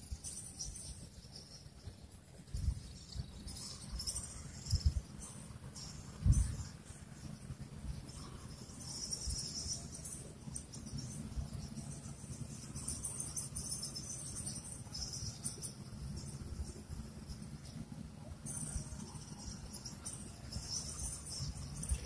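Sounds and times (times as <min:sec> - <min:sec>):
insects chirring: 0:00.0 - 0:22.0
steady low rumble: 0:00.0 - 0:22.0.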